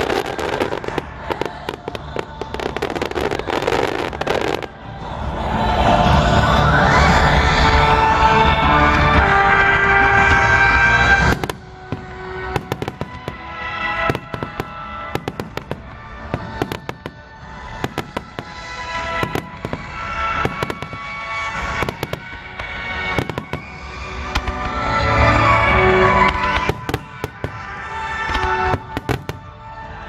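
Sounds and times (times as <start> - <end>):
fireworks crackling and popping: 0.0 - 30.0
music: 0.0 - 30.0.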